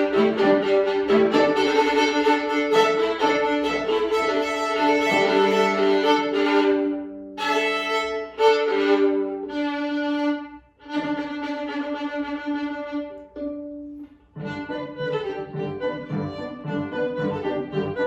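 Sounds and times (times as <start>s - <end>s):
solo violin playing: 0.0s - 18.0s.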